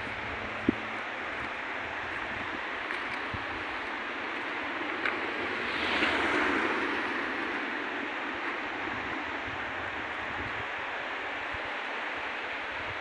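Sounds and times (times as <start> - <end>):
river rapids rushing: 0.0 - 13.0
wind buffeting microphone: 0.0 - 13.0.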